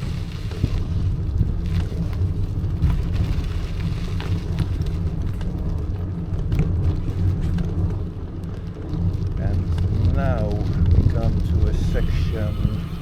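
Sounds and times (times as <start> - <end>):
bicycle rattles and knocks: 0.0 - 13.0
bicycle rumbling on rough road: 0.0 - 13.0.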